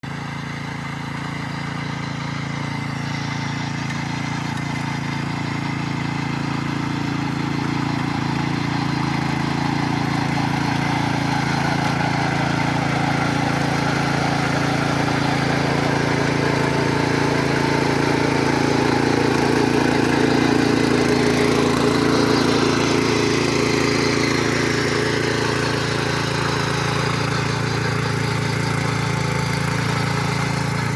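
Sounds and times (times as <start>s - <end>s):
tractor engine running under load: 0.0s - 30.9s.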